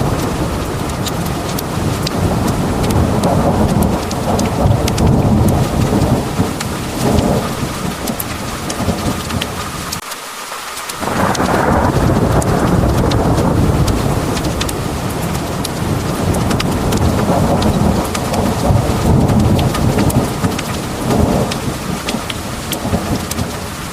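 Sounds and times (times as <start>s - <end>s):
thunder rumbling: 0.0s - 10.0s, 11.0s - 23.9s
heavy rain pouring: 0.0s - 23.9s.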